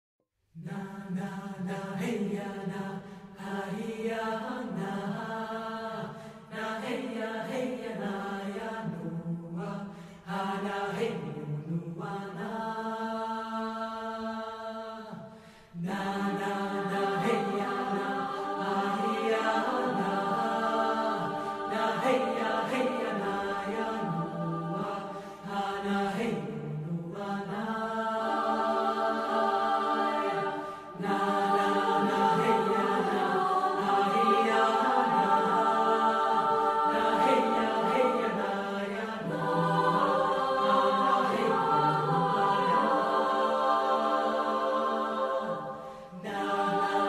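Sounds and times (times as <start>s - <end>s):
choir chanting: 0.6s - 47.0s.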